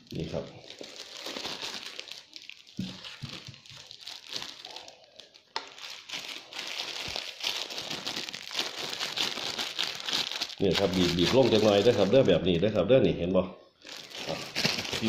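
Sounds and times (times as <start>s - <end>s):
plastic bag crinkling: 0.0s - 12.5s, 13.8s - 15.0s.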